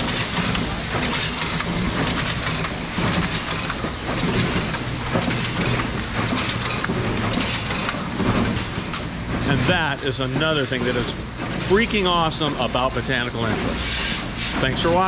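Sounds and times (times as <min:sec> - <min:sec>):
low machine hum: 0:00.0 - 0:15.0
machine mechanical clatter: 0:00.0 - 0:15.0.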